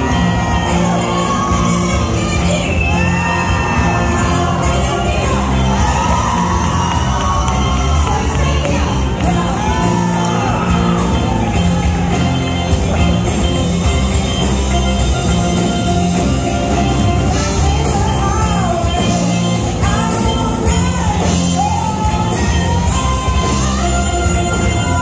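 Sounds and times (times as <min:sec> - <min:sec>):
woman singing: 0:00.0 - 0:12.6, 0:16.7 - 0:25.0
bass guitar: 0:00.0 - 0:25.0
drums keeping a steady beat: 0:00.0 - 0:25.0.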